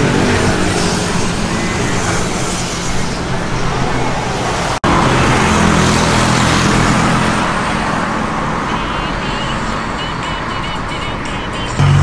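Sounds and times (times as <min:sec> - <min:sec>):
roadside traffic noise: 0:00.0 - 0:12.0.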